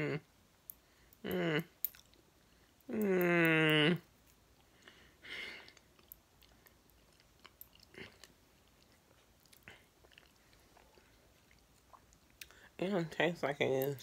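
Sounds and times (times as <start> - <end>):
person chewing food: 0.8 - 3.4, 4.0 - 12.7.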